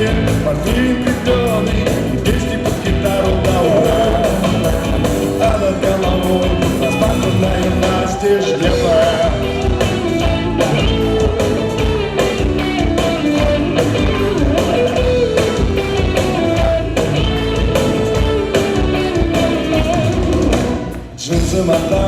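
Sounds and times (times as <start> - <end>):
guitar melody: 0.0 - 21.2
drum beat: 0.0 - 22.0.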